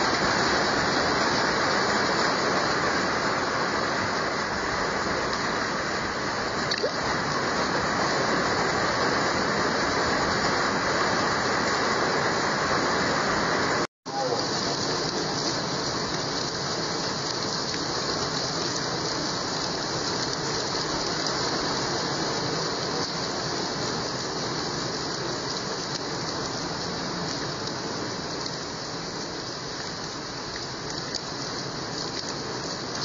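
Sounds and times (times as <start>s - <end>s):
heavy rain on muddy ground: 0.0s - 33.0s.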